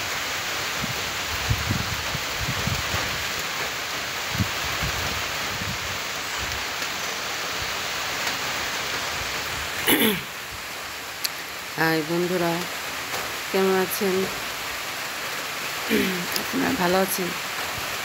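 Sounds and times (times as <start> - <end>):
rain on concrete rooftop: 0.0 - 18.0.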